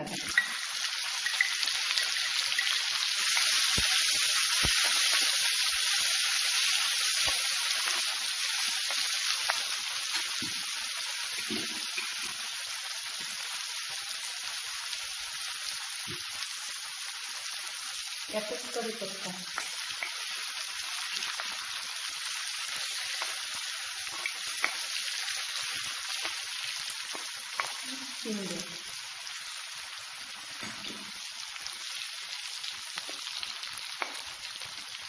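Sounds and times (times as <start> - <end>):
onion sizzling in hot oil: 0.0 - 35.0.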